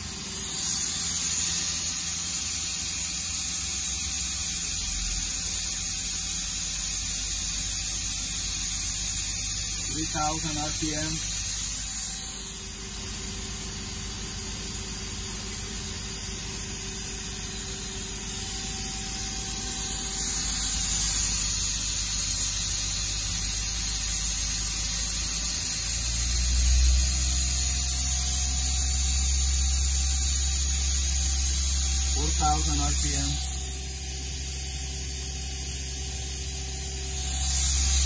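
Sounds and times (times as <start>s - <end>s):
machine spindle electric whine: 0.0s - 38.0s.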